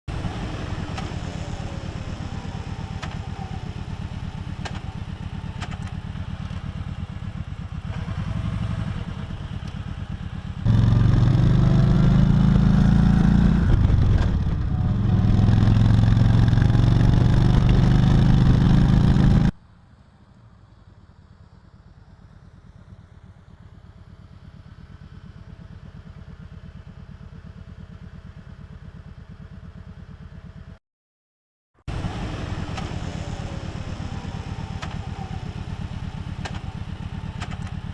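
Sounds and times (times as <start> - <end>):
motorcycle engine: 0.1 - 19.6, 22.3 - 30.8, 31.9 - 37.9.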